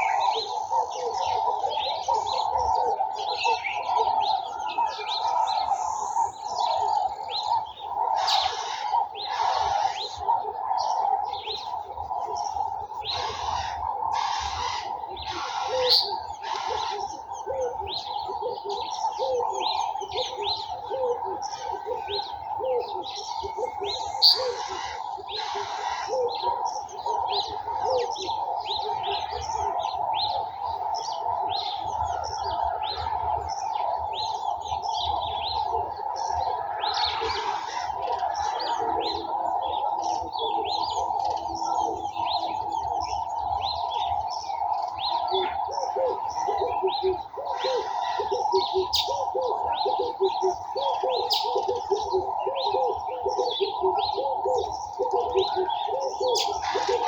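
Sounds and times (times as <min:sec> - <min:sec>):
birds chirping and singing: 0:00.0 - 0:57.0
doves cooing: 0:00.0 - 0:57.0.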